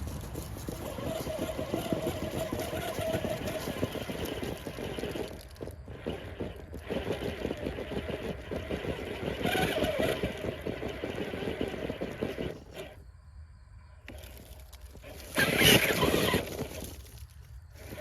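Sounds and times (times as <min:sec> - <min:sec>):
tires crunching on rock: 0:00.0 - 0:13.1, 0:14.0 - 0:18.0
electric motor whine: 0:00.2 - 0:13.0, 0:14.1 - 0:18.0.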